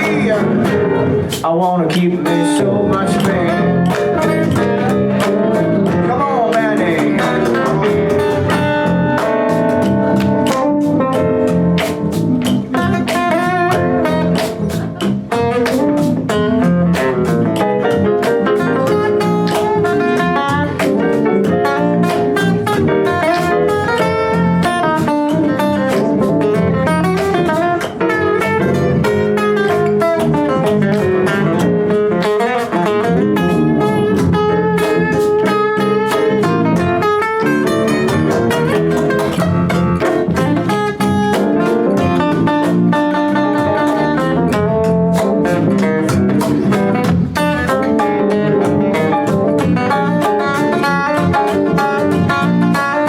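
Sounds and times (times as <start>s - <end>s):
lead guitar solo: 0.0s - 1.4s, 2.6s - 53.0s
bass and drums: 0.0s - 53.0s.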